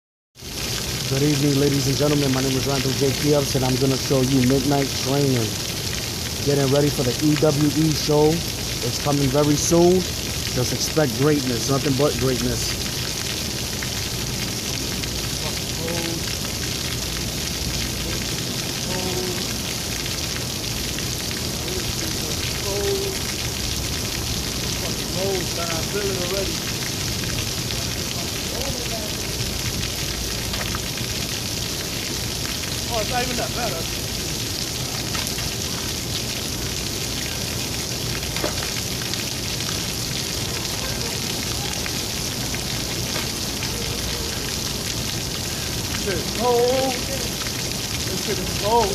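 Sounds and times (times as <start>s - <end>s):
water spraying: 0.4s - 48.9s.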